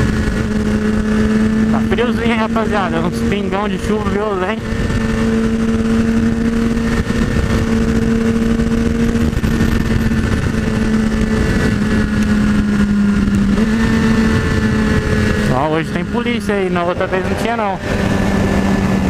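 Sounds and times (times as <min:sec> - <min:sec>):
motorcycle engine cruising: 0:00.0 - 0:19.0
wind rushing over microphone: 0:00.0 - 0:19.0.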